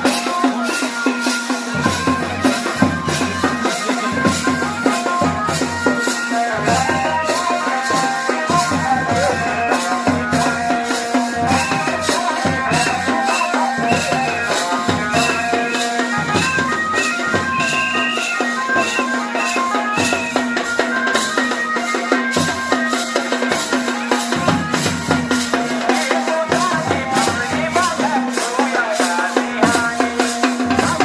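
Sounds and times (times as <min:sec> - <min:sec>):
held melody notes: 0:00.0 - 0:28.6
percussion beat: 0:00.0 - 0:31.0.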